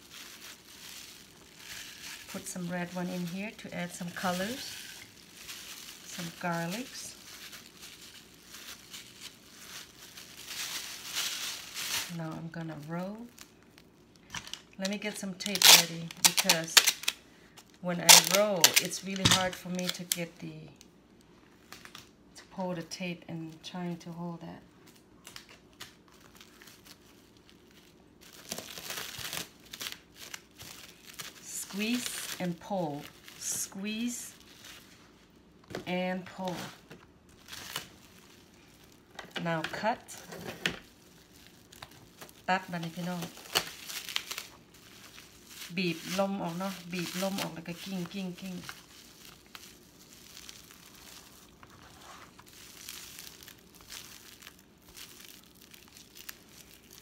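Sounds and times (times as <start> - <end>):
plastic cling wrap crinkling: 0.0 - 57.0.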